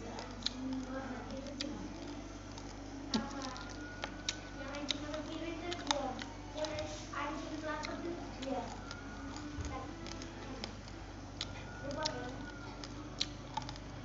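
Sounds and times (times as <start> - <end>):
rice being chewed: 0.0 - 14.0.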